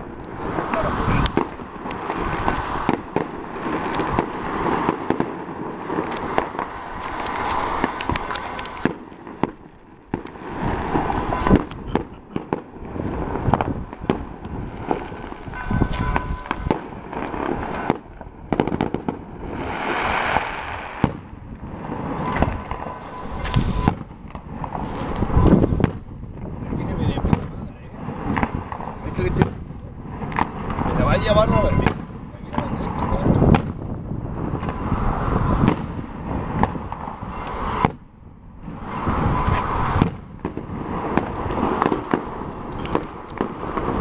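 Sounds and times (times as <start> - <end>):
deep fireworks booms: 0.0 - 44.0
fireworks bangs: 0.0 - 44.0
fireworks crackling: 0.0 - 44.0.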